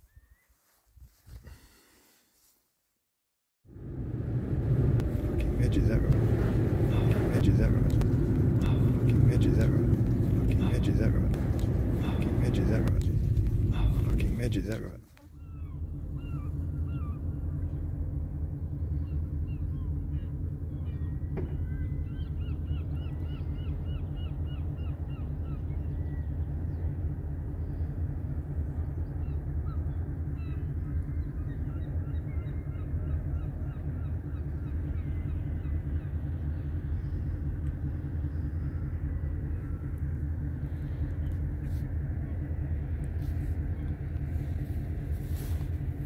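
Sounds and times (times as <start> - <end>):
low engine drone: 3.6 - 46.0.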